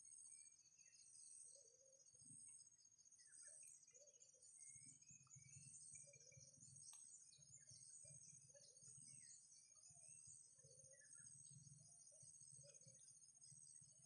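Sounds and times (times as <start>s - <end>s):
small bird chirps: 0.0s - 14.0s.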